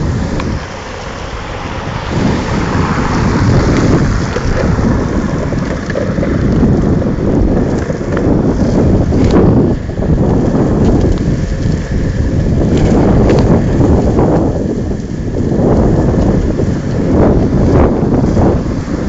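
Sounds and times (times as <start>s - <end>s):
longboard wheels rolling on wet pavement: 0.0s - 19.0s
wind buffeting microphone: 0.0s - 19.0s.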